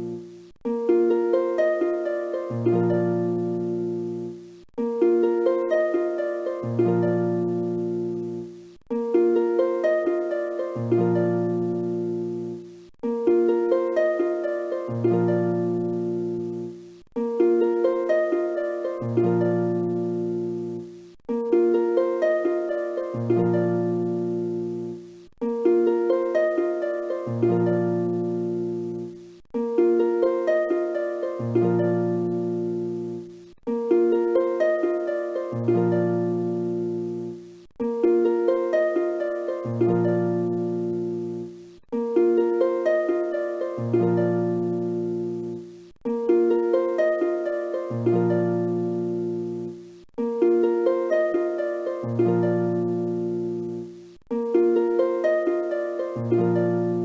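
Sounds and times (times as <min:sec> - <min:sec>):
looping music of ringing notes: 0:00.0 - 0:57.0.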